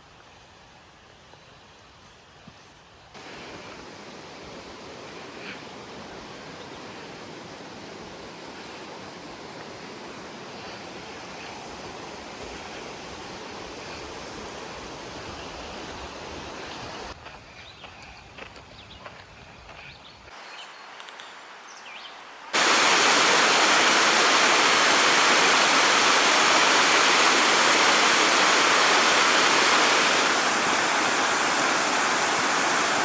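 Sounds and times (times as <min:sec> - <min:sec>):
waterfall rushing: 0:03.2 - 0:17.2, 0:20.4 - 0:33.0.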